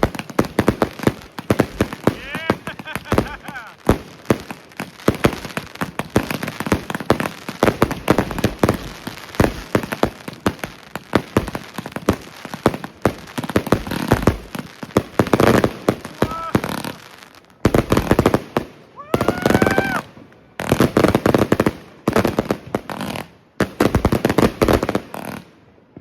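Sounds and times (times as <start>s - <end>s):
fireworks banging and popping: 0.0s - 26.0s.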